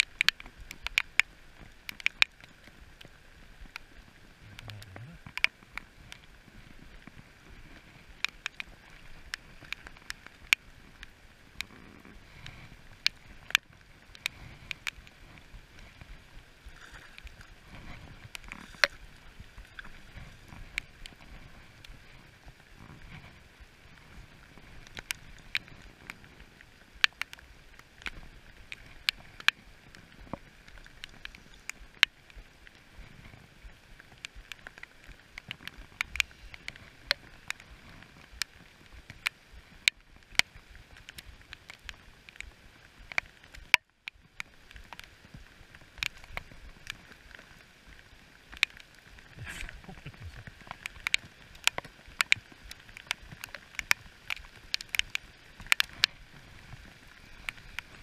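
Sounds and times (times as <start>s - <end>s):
rain falling on river: 0.0s - 58.0s
raindrops ticking on camera: 0.0s - 58.0s.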